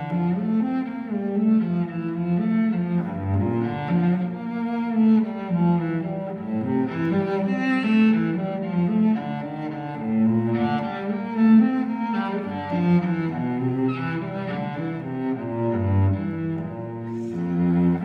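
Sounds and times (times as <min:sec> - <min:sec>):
bowed low strings melody: 0:00.0 - 0:18.0.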